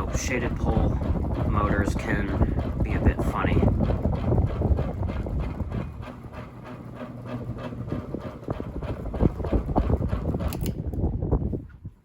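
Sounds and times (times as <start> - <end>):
ceiling fan motor humming: 0.0 - 12.0
fan blade rhythmic clacking: 0.0 - 12.0.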